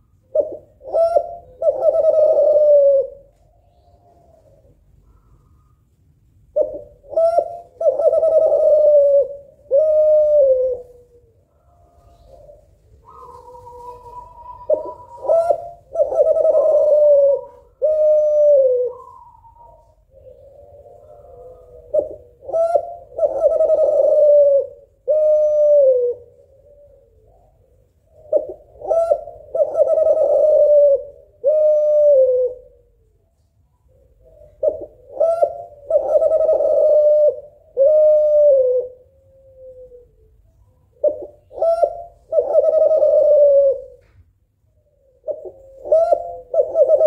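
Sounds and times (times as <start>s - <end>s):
dove cooing: 0.0s - 47.0s.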